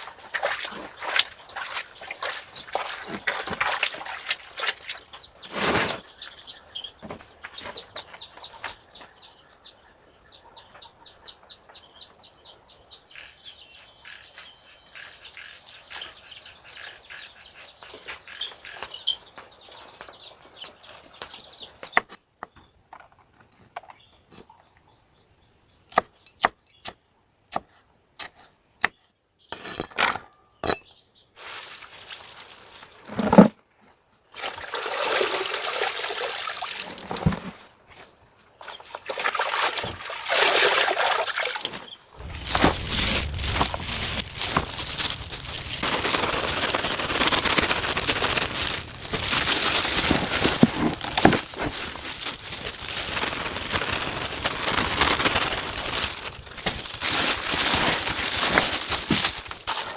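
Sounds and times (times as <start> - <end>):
insects droning: 0.0 - 29.5, 30.9 - 59.9.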